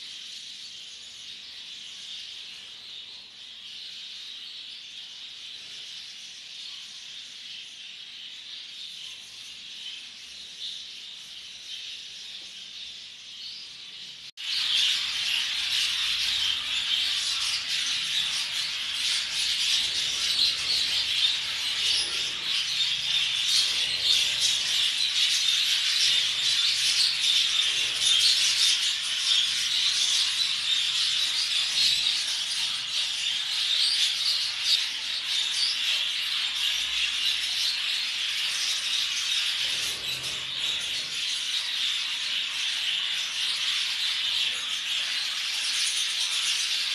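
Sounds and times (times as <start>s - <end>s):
budgerigars chattering and warbling: 0.0s - 46.9s.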